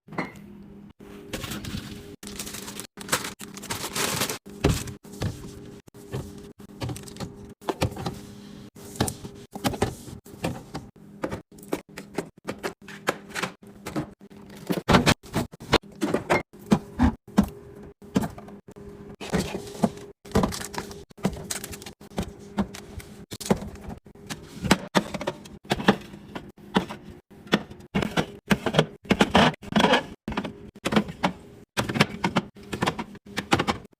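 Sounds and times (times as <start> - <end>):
refrigerator hum: 0.0 - 33.9.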